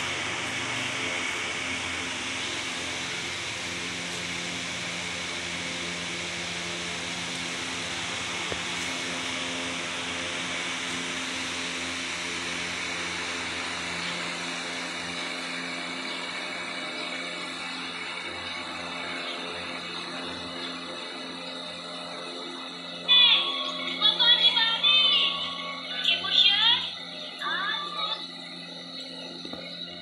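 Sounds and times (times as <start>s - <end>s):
steady machine hum with hiss: 0.0s - 30.0s.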